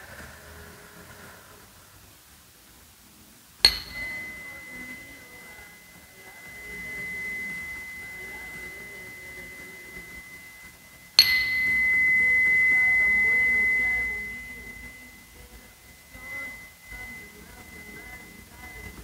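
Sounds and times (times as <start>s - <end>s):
metal instrument ringing tone: 3.6s - 19.0s.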